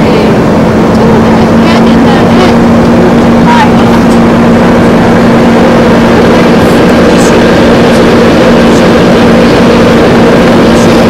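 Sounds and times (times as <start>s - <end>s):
engine-like drone: 0.0s - 11.0s.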